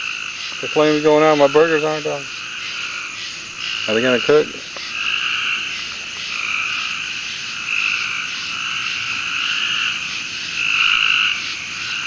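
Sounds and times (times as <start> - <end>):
frogs calling: 0.0 - 12.0.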